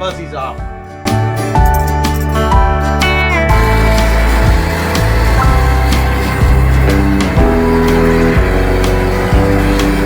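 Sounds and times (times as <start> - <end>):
guitar-led background music: 0.0 - 10.0.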